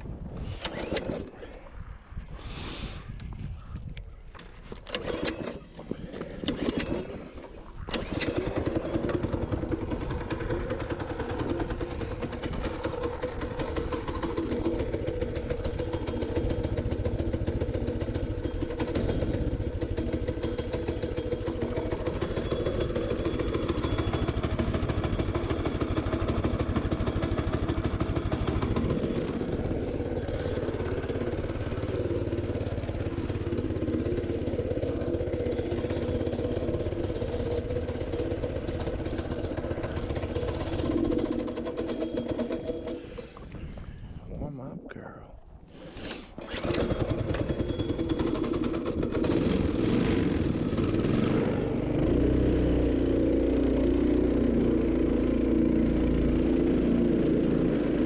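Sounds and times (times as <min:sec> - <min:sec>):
small engine running: 0:00.4 - 0:01.7, 0:04.8 - 0:44.0, 0:45.8 - 0:58.0.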